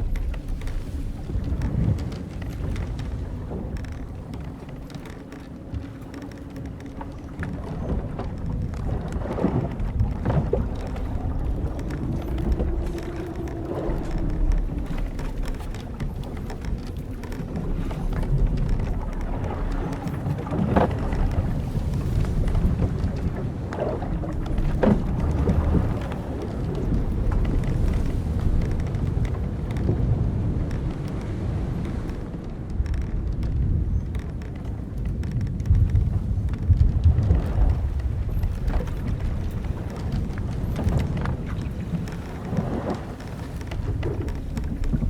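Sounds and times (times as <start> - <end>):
sea wash and wind: 0.0 - 45.0
wooden ship timbers creaking: 0.0 - 45.0.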